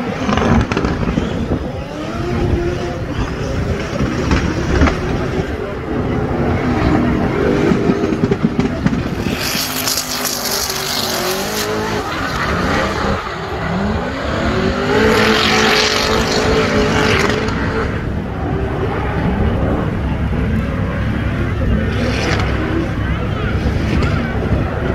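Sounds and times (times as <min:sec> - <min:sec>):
car engine revving high: 0:00.1 - 0:24.9.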